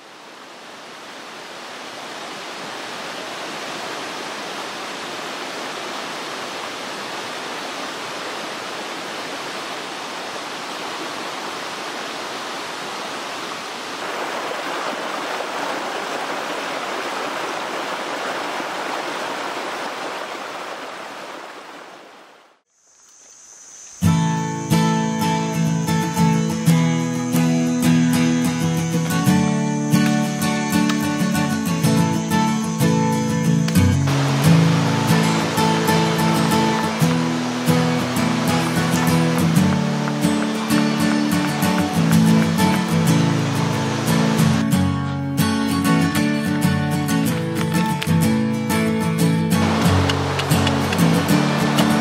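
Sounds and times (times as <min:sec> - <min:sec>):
mountain stream rushing: 0:00.0 - 0:22.6, 0:24.5 - 0:52.0.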